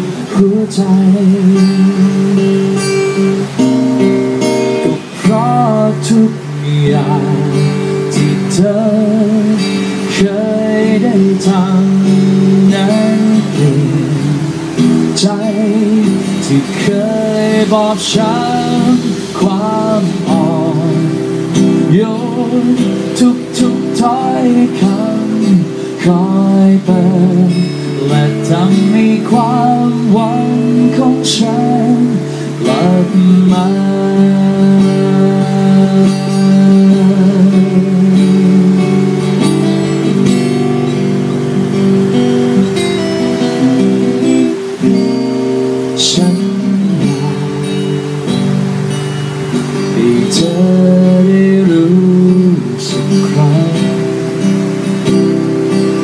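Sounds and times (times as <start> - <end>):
acoustic guitar strumming: 0.0 - 56.0
man singing with vibrato: 0.0 - 56.0.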